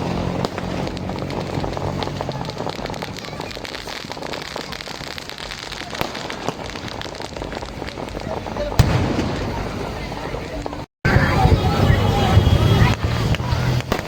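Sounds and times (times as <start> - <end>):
fireworks crackling: 0.0 - 14.0
loud firework cracks: 0.0 - 14.0.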